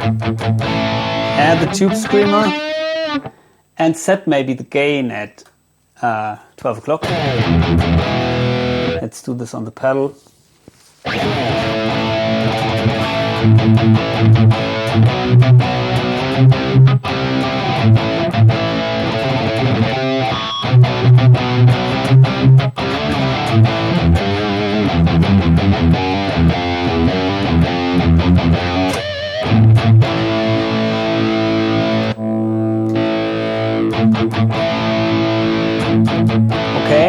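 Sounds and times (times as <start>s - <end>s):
distorted electric guitar: 0.0s - 3.4s, 7.0s - 9.1s, 11.0s - 37.0s.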